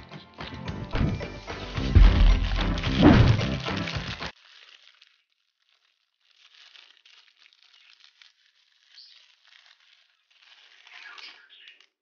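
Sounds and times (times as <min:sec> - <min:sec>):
plastic bag crinkling: 0:01.4 - 0:12.0.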